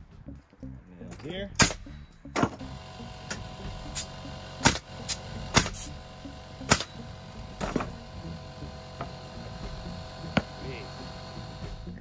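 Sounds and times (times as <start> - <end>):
pneumatic nail gun firing: 1.6 - 12.0.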